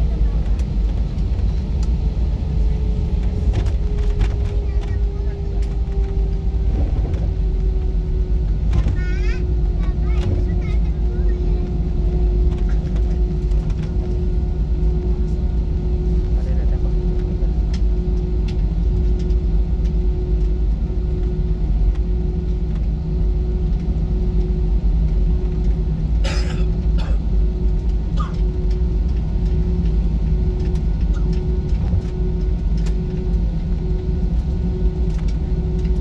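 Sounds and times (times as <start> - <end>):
cabin hum: 0.0 - 36.0
jet engines rumbling: 0.0 - 36.0.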